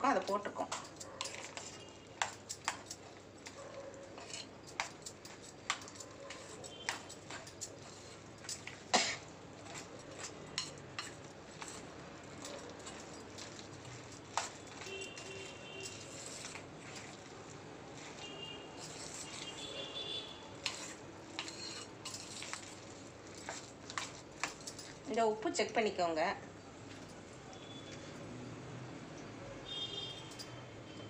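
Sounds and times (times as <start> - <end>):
batter squelching: 0.0 - 25.8
spoon scraping steel bowl: 0.1 - 25.1.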